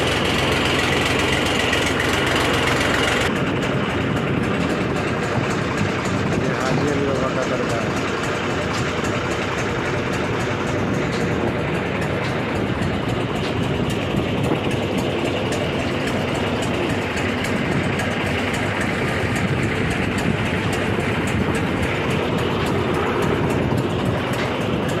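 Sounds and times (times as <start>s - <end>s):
motorboat engine droning: 0.0s - 25.0s.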